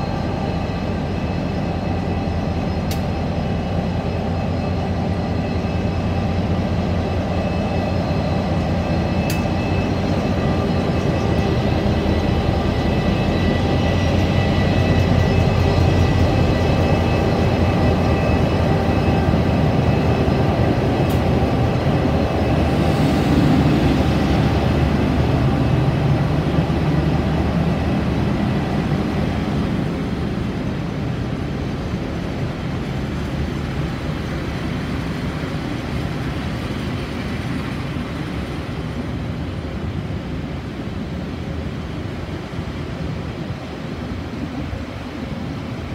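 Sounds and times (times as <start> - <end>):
diesel locomotive engine running: 0.0 - 45.9.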